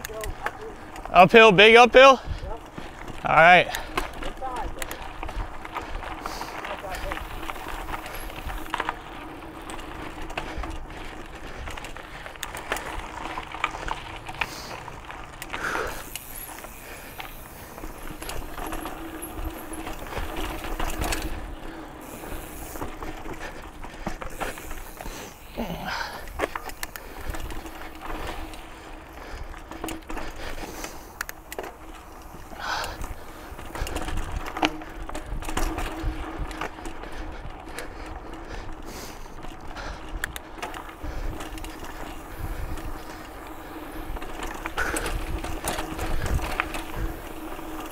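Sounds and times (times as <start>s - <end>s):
bike clicks and knocks: 0.0s - 1.2s, 2.4s - 47.9s
mountain bike rattling on dirt trail: 0.0s - 47.9s.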